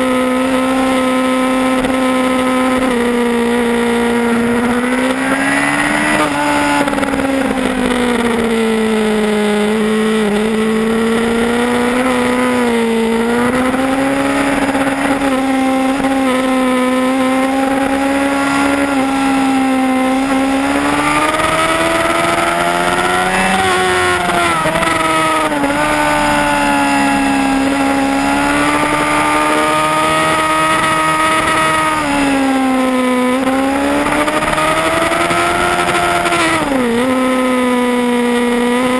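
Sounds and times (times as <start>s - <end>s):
motorcycle engine running hard: 0.0s - 38.9s.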